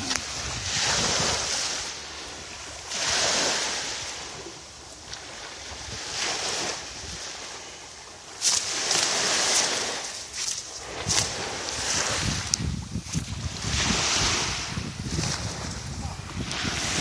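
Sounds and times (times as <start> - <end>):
small waves washing ashore: 0.0 - 17.0.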